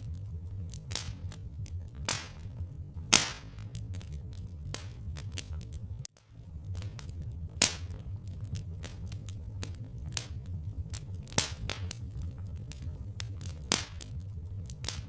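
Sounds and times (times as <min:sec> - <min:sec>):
loud fire pops: 0:00.0 - 0:15.0
steady low rumble: 0:00.0 - 0:15.0
wood fire crackling: 0:00.0 - 0:15.0.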